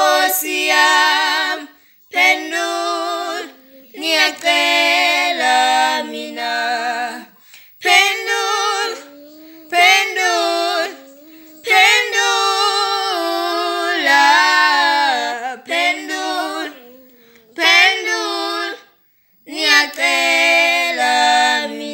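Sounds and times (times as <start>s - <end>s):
woman and girl singing: 0.0s - 21.9s.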